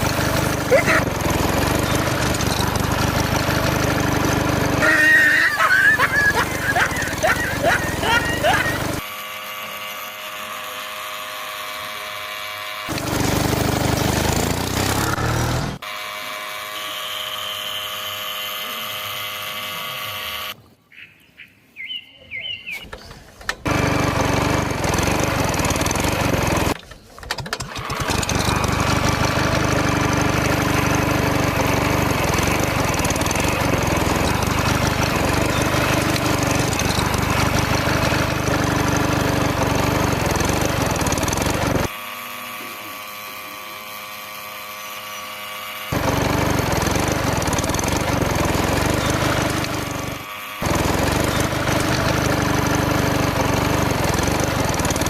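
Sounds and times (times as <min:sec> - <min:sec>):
small engine clattering: 0:00.0 - 0:20.6, 0:22.9 - 0:55.0.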